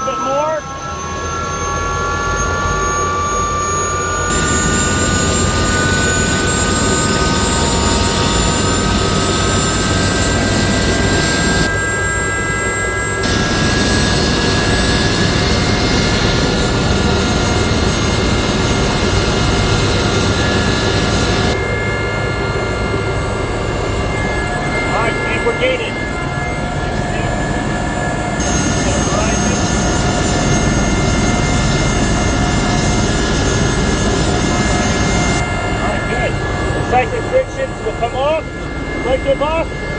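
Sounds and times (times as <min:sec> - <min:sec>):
helicopter rotor rumble: 0:00.0 - 0:39.9
helicopter turbine whine: 0:00.0 - 0:39.9.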